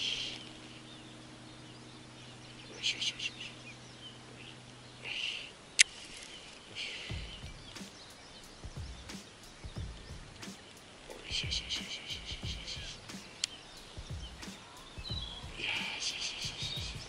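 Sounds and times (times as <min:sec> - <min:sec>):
faint outdoor background: 0:00.0 - 0:17.0
short bird calls: 0:00.0 - 0:17.0.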